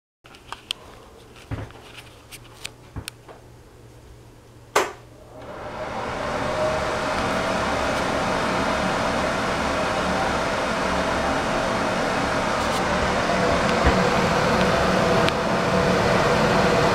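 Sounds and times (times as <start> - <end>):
exhaust fan rushing air: 2.2 - 16.9.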